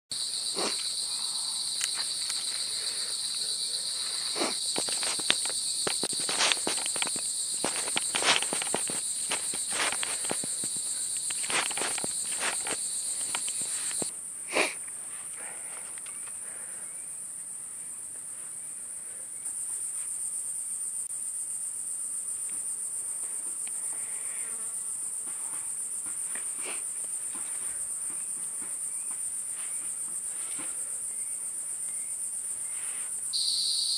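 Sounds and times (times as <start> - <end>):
insects chirring: 0.1 - 33.9.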